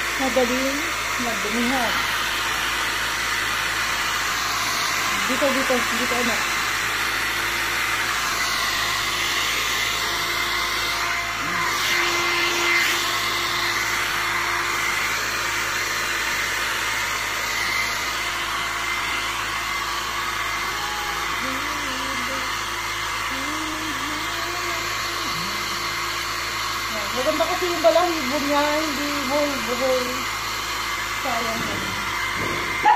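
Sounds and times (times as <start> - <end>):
hair dryer blowing: 0.0 - 32.9.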